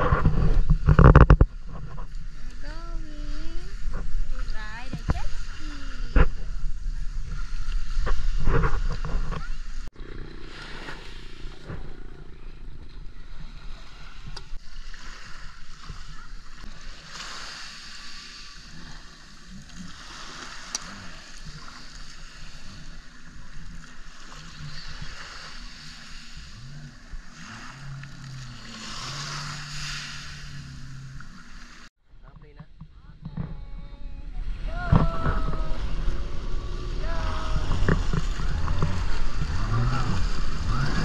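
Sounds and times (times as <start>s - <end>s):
jet ski engine: 0.0s - 31.9s, 33.0s - 41.0s
small waves washing on beach: 0.0s - 31.9s, 33.9s - 41.0s.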